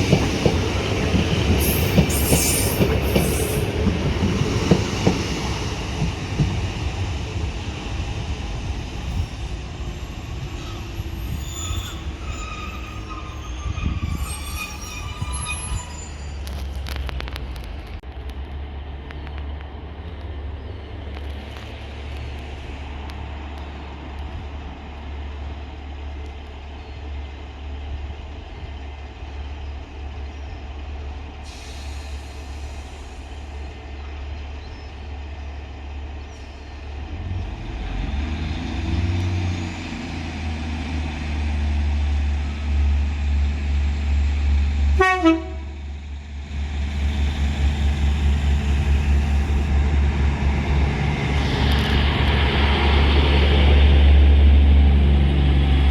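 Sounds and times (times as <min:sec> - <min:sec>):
train engine throbbing: 0:00.0 - 0:55.9.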